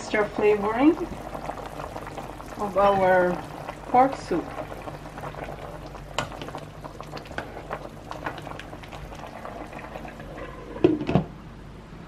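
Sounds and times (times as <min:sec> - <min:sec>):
soup boiling and bubbling: 0:00.0 - 0:11.2
utensil stirring pot: 0:00.7 - 0:11.0.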